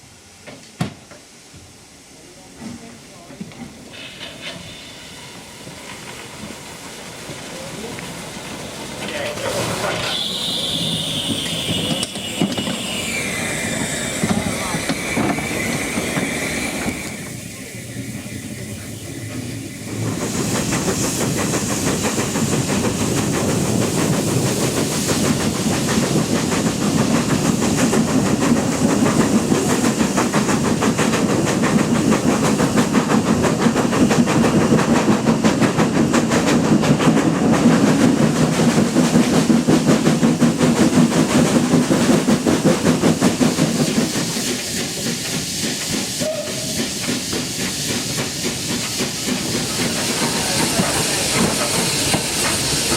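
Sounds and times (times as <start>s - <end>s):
hiss of steam: 0.0s - 52.9s
steam locomotive exhaust beating: 3.4s - 52.9s.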